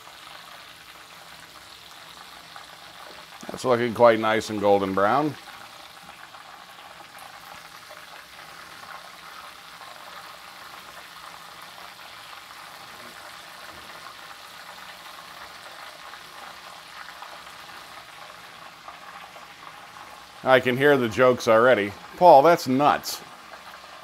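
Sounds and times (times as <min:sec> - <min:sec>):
meat sizzling in hot oil: 0:00.0 - 0:24.0.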